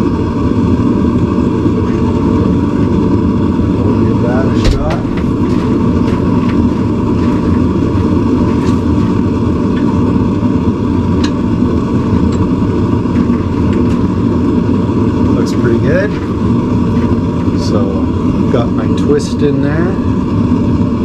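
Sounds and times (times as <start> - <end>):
forge rumbling: 0.0 - 21.0.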